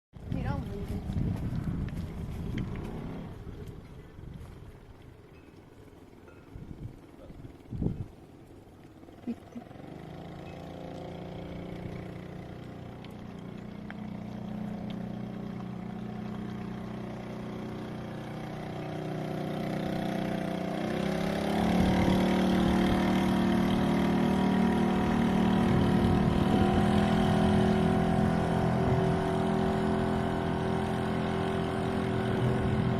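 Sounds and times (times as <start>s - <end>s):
outboard motor running: 0.2s - 32.9s.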